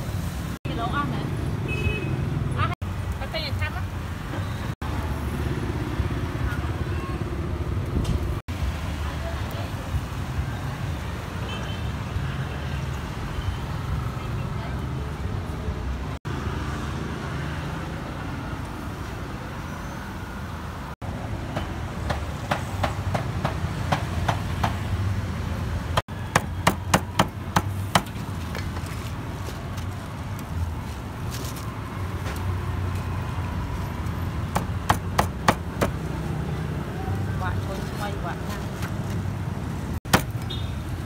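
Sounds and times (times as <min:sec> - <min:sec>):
street and traffic noise: 0:00.0 - 0:41.0.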